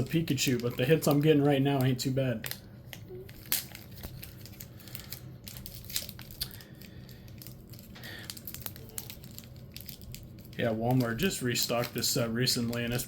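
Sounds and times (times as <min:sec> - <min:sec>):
foil wrapper crinkling: 0:00.0 - 0:13.0
trading cards being handled: 0:00.0 - 0:13.0.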